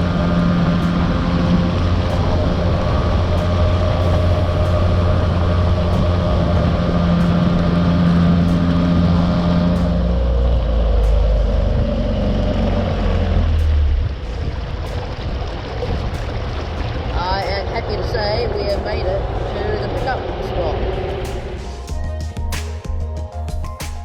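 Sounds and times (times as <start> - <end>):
outboard motor droning: 0.0 - 21.9
wind noise: 0.0 - 22.7
rushing water: 0.0 - 23.0.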